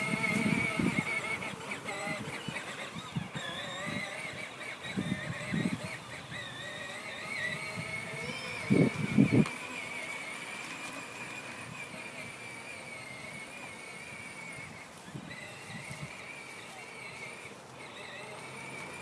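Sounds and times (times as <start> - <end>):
toy tractor motor whine: 0.0 - 19.0.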